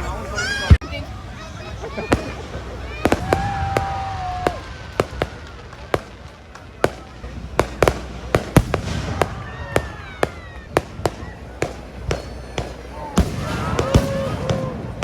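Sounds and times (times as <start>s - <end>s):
fireworks bangs: 0.6s - 15.0s
firework whistles: 1.6s - 15.0s.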